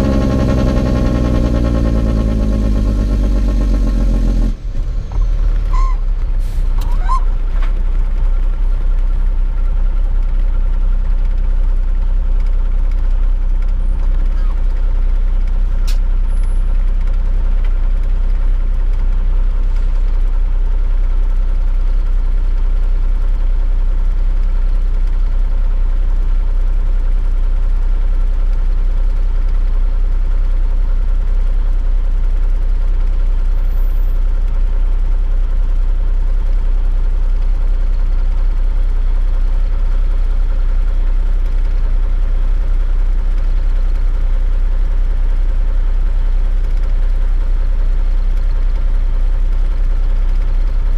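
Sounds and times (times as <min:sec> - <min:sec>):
truck diesel engine idling: 0:00.0 - 0:50.9.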